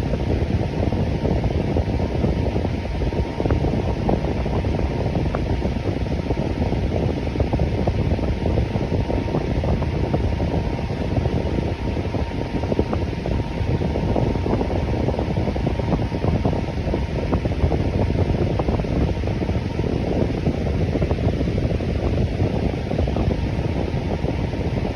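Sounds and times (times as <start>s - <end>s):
electric fan running: 0.0s - 24.9s
faint steady hum: 0.0s - 24.9s.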